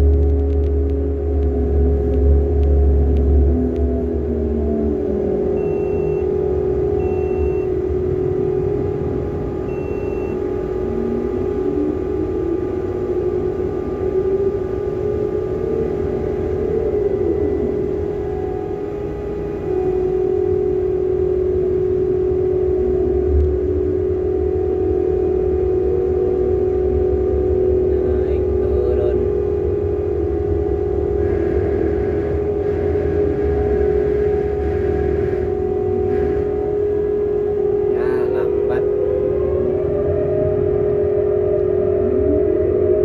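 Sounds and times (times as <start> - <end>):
crane machinery hum: 0.0 - 43.0
winch whine: 0.0 - 43.0.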